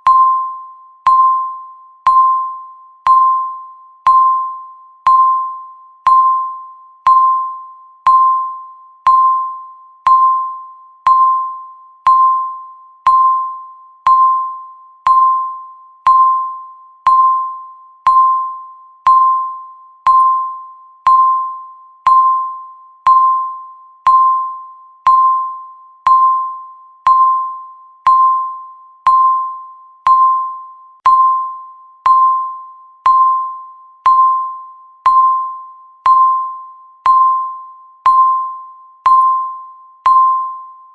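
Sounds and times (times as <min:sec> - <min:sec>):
timer beeping: 0:00.0 - 0:40.9.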